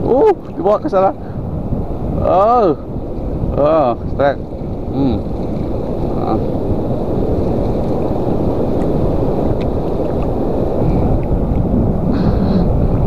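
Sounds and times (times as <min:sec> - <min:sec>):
choppy sea water: 0:00.0 - 0:13.0
wind buffeting microphone: 0:00.0 - 0:13.0.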